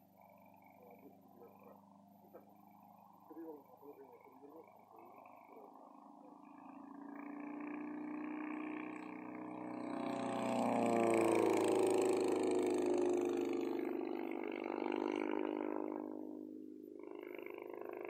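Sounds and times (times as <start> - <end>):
light plane engine droning fly-by: 0.0 - 18.0.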